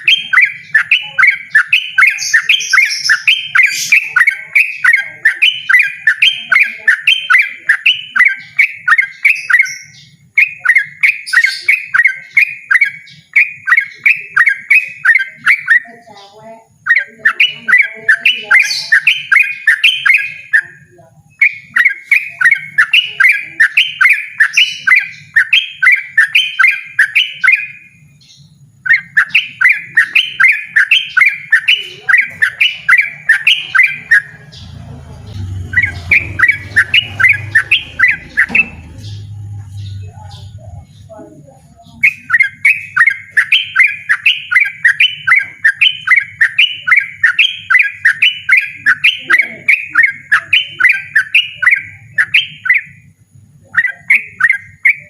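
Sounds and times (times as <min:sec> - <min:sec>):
bulbul singing repeated notes: 0:00.0 - 0:55.0.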